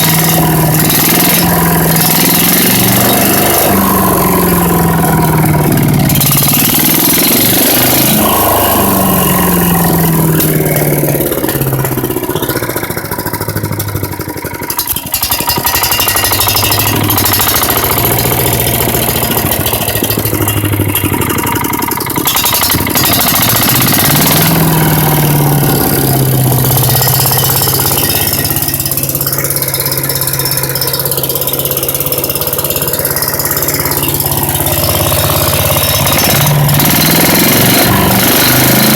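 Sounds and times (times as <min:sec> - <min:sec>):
wood chipper engine revving: 0:00.0 - 0:38.9.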